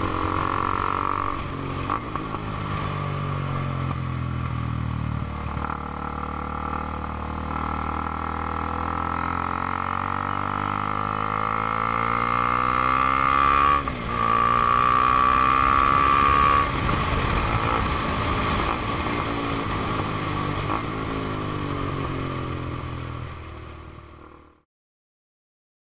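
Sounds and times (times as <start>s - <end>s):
motorcycle engine revving: 0.0s - 24.6s.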